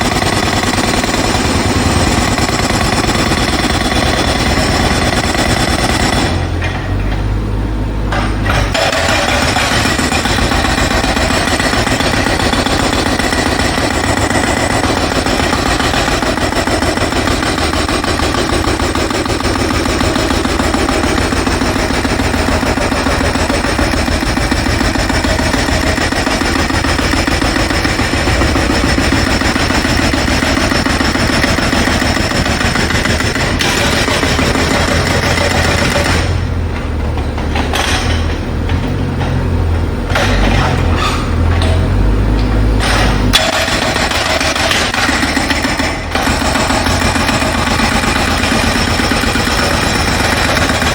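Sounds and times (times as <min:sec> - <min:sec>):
jackhammer hammering: 0:00.0 - 0:07.0, 0:08.1 - 0:50.9
heavy engine rumble: 0:00.0 - 0:50.9.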